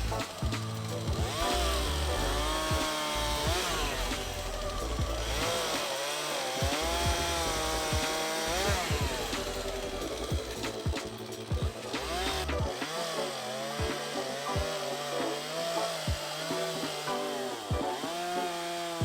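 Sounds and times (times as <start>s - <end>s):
chainsaw cutting logs: 0.0s - 19.0s.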